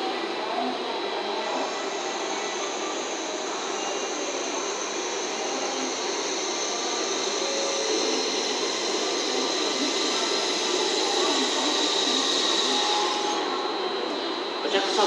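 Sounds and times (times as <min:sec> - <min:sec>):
trains pulling into station: 0:00.0 - 0:15.0.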